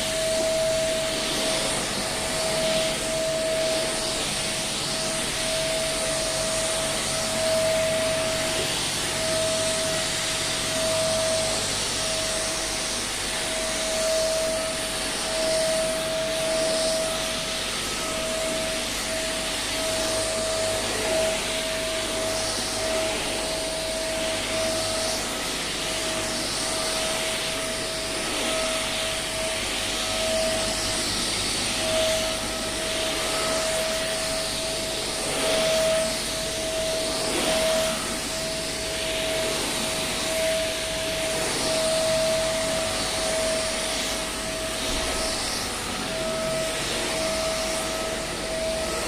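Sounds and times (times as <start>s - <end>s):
vacuum cleaner running: 0.0s - 49.0s.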